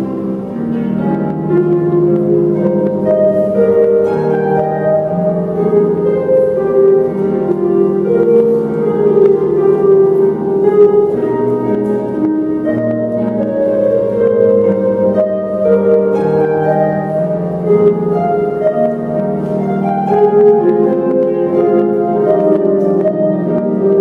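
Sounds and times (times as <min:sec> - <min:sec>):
harps playing: 0:00.0 - 0:24.0.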